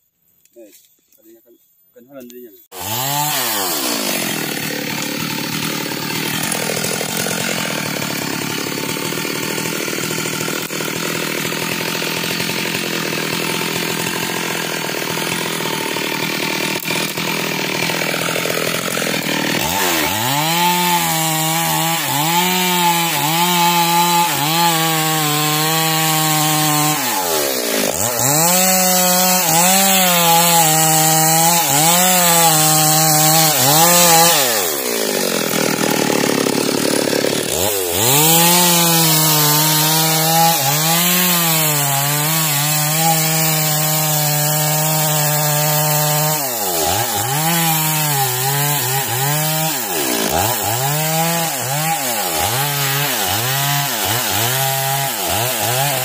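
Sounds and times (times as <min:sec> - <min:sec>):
chainsaw cutting wood: 0:02.7 - 0:56.0.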